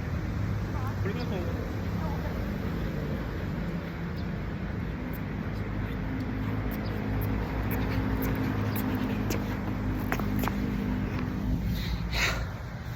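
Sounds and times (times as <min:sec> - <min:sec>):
low engine hum: 0:00.0 - 0:12.9.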